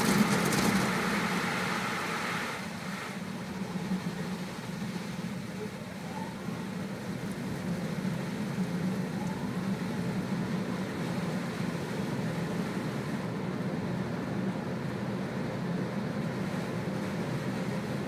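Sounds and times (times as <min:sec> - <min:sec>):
car wash machine hum: 0:00.0 - 0:18.0
rushing water noise: 0:00.0 - 0:18.0.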